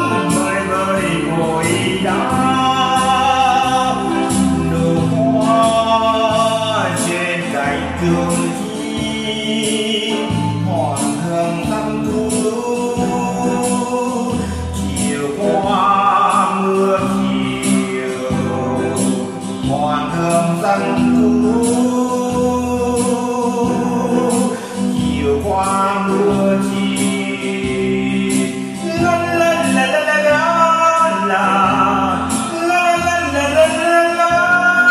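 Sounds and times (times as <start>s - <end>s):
electronic organ with beat: 0.0s - 34.9s
man singing: 0.0s - 34.9s.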